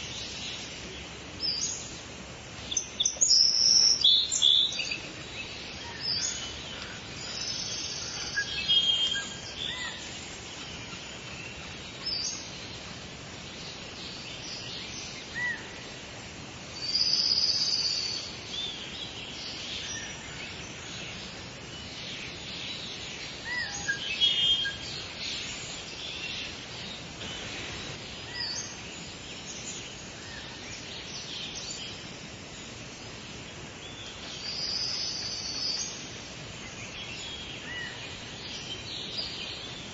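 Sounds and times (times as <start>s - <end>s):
outdoor background hiss: 0.0s - 39.9s
songbirds chirping and trilling: 0.0s - 39.9s.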